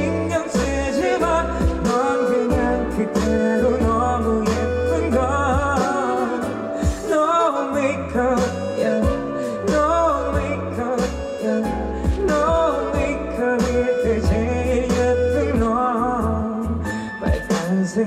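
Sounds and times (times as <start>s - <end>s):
band accompaniment with bass: 0.0s - 18.0s
person singing pop song: 0.0s - 18.0s.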